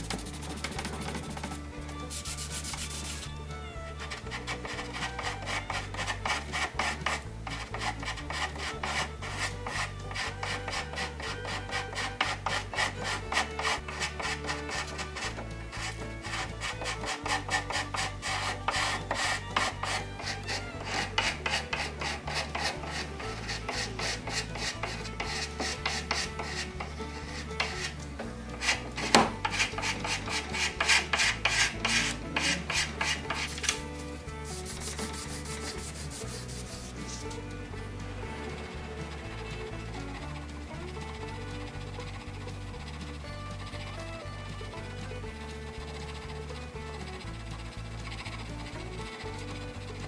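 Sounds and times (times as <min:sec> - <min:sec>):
scraper scraping wooden boards: 0:00.0 - 0:03.3, 0:04.0 - 0:37.5, 0:38.3 - 0:44.3, 0:44.9 - 0:50.0.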